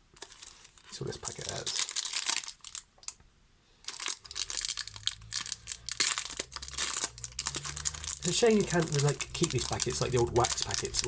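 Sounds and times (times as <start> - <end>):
plastic wrapper tearing and crinkling: 0.2 - 3.2, 3.8 - 11.0.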